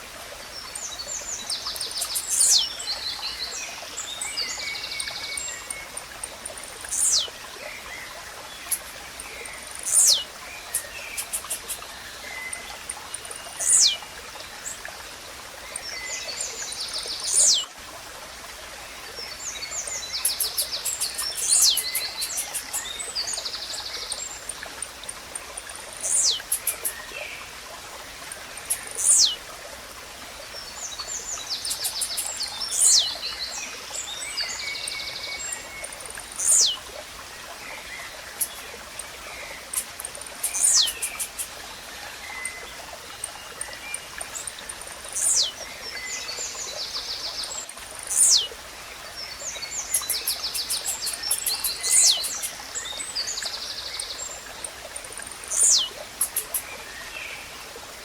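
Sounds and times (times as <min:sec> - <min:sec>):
small birds chirping and trilling: 0:00.0 - 0:14.9, 0:15.6 - 0:17.8, 0:19.1 - 0:29.5, 0:30.4 - 0:57.5
running water hiss: 0:00.0 - 0:58.0.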